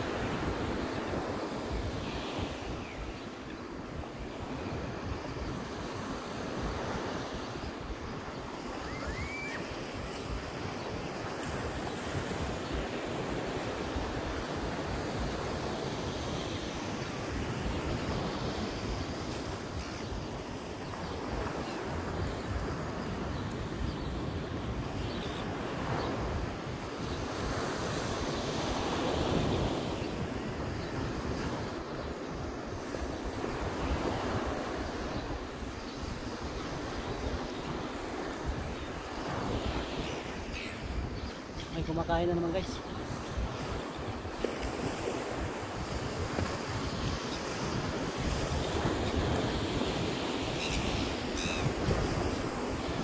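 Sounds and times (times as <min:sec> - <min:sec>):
ocean surf on a beach: 0:00.0 - 0:53.0
wind buffeting microphone: 0:00.0 - 0:53.0.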